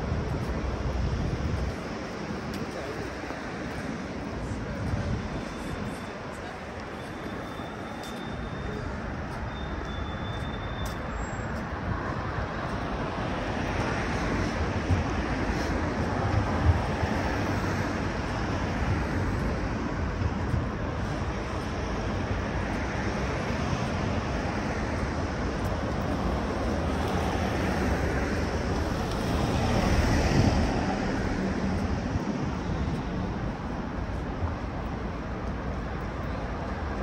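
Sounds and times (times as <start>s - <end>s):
street traffic: 0.0s - 37.0s.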